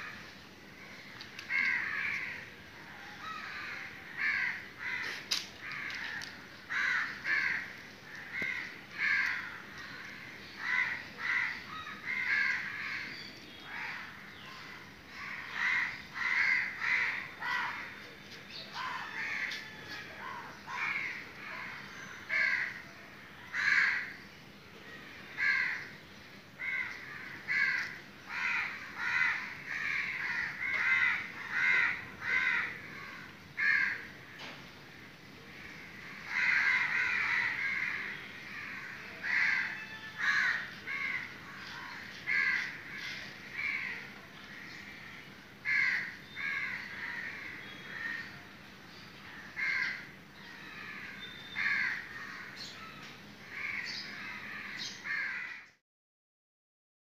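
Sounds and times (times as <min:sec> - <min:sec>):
crows cawing: 0:00.8 - 0:17.9, 0:18.7 - 0:22.9, 0:23.5 - 0:24.2, 0:25.2 - 0:25.9, 0:26.6 - 0:34.6, 0:35.5 - 0:48.4, 0:49.3 - 0:52.7, 0:53.5 - 0:55.8.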